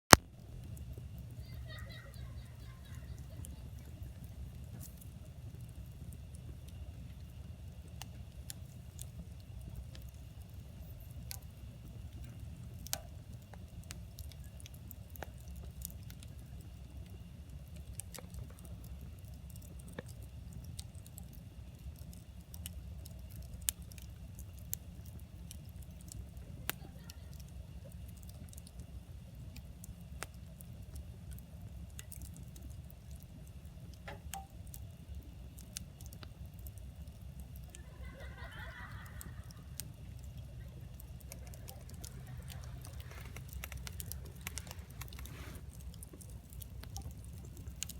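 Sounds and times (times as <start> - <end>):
campfire crackling and popping: 0.1 - 47.9
low steady rumble: 0.1 - 47.9.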